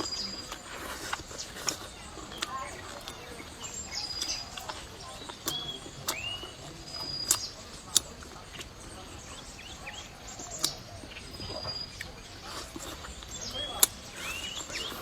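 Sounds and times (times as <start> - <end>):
birds chirping: 0.0 - 15.0
chewing and gnawing: 0.0 - 15.0.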